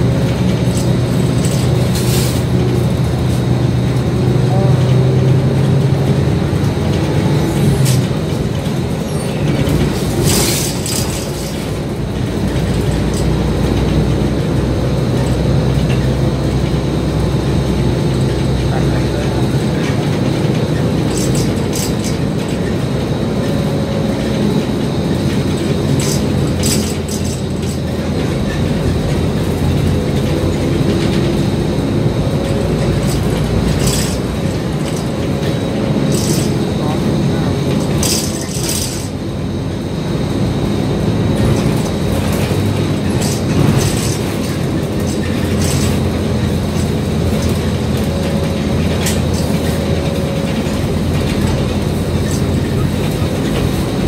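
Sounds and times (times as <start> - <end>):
bodywork rattles and clicks: 0.0 - 54.0
bus engine running: 0.0 - 54.0.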